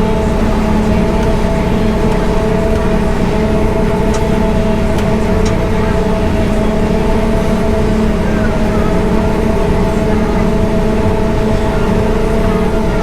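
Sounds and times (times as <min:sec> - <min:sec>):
farm machinery engine drone: 0:00.0 - 0:13.0
steady whine: 0:00.0 - 0:13.0.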